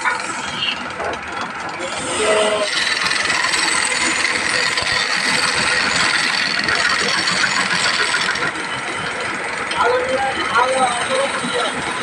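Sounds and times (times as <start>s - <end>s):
machine running with light rattle: 0.0s - 12.0s.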